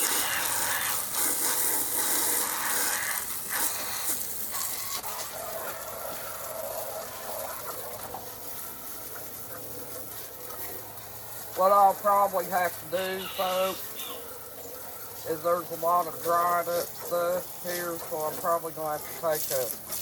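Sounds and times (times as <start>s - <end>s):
hose spraying water on ground: 0.0s - 20.0s.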